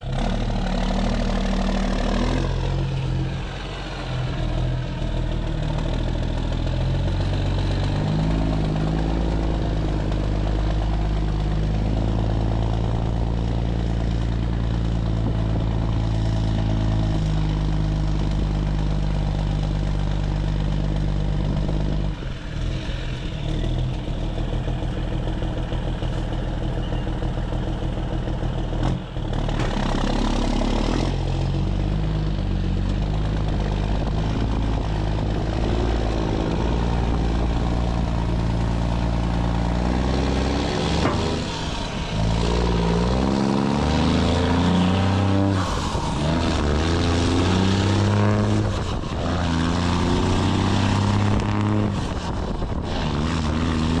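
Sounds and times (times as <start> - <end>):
diesel truck engine braking: 0.0 - 54.0.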